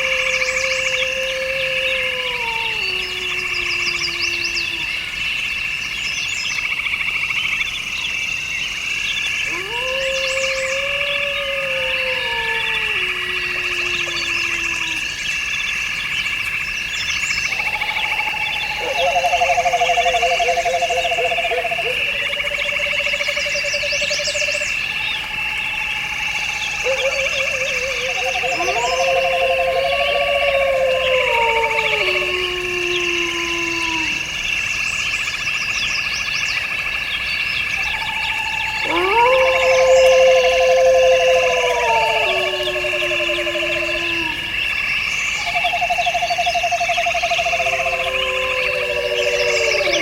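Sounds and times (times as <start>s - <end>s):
birds chirping: 0.0s - 50.0s
frogs and insects trilling: 0.0s - 50.0s.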